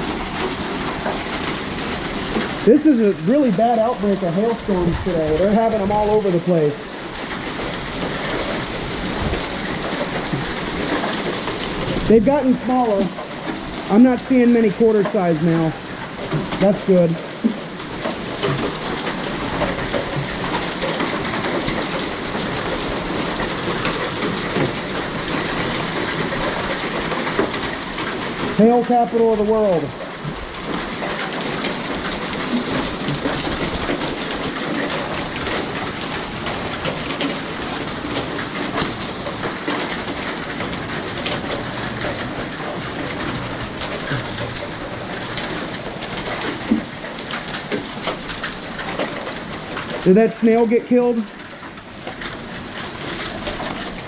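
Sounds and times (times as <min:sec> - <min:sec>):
hailstones ticking: 0:00.0 - 0:54.0
heavy rain: 0:00.0 - 0:54.0.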